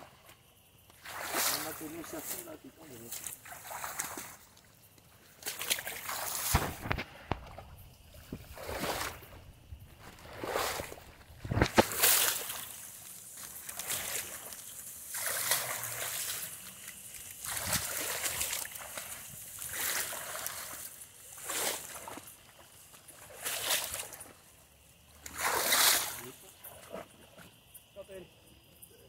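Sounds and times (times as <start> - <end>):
grass and leaves rustling: 0.0 - 27.8.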